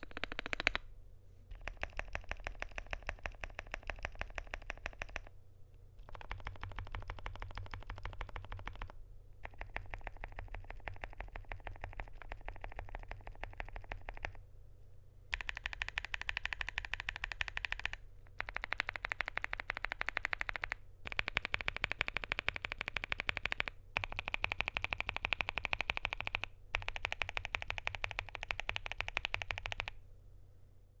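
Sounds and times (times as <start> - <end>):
mechanical keyboard typing: 0.0 - 0.8, 1.5 - 5.3, 6.0 - 14.4, 15.3 - 30.0.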